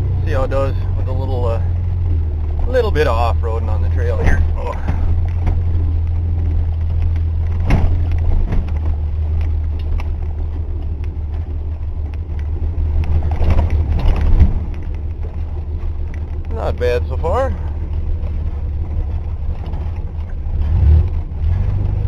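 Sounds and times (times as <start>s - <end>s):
truck engine droning: 0.0s - 22.0s
truck knocks and clunks: 0.0s - 22.0s.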